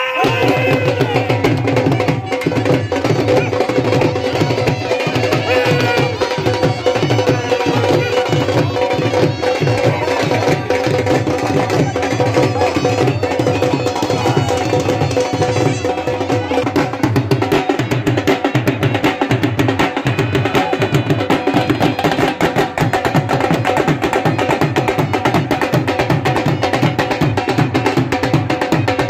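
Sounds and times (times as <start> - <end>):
dhol drums fast beat: 0.0 - 29.0.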